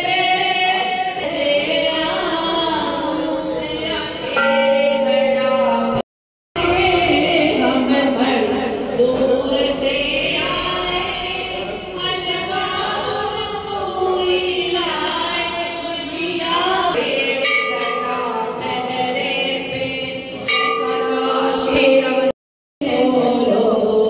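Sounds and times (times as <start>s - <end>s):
chorus chanting a hymn: 0.0s - 6.0s, 6.6s - 24.0s.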